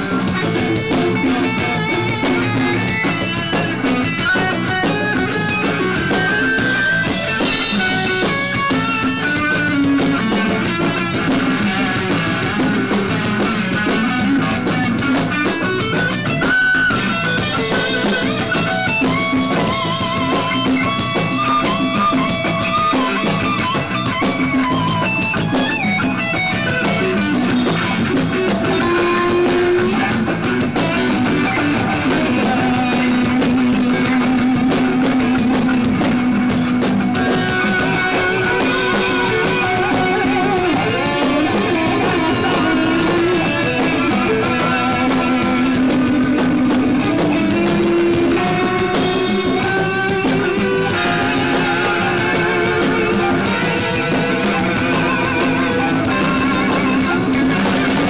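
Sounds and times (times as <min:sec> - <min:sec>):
bass guitar: 0:00.0 - 0:58.0
drum kit: 0:00.0 - 0:58.0
electric guitar lead: 0:00.0 - 0:58.0.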